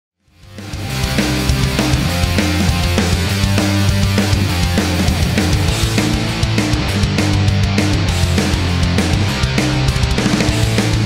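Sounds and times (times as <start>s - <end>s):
intro music with drum beat: 0.3s - 11.0s.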